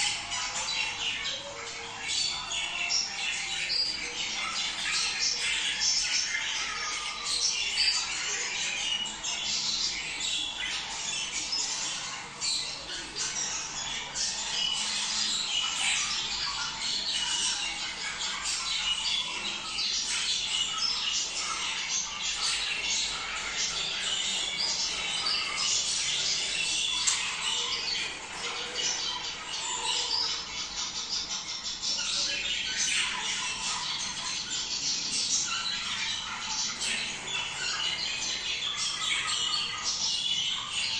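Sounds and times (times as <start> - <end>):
budgerigar flock chattering: 0.0 - 40.9.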